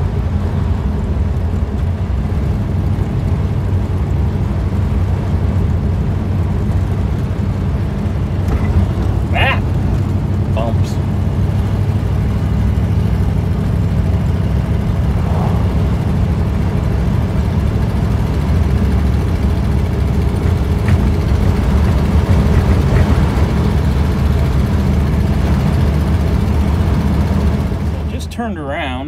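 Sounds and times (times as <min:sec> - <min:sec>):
car engine and exhaust drone: 0:00.0 - 0:29.0
road and wind noise: 0:00.0 - 0:29.0.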